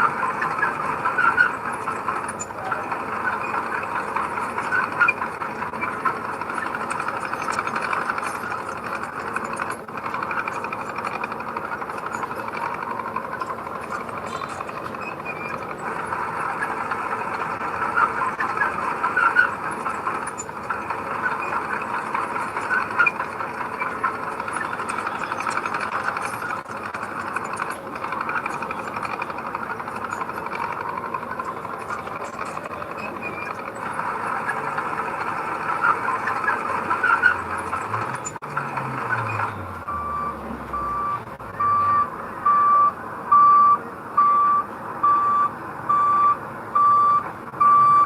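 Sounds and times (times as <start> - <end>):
heavy machinery running: 0.0 - 48.0.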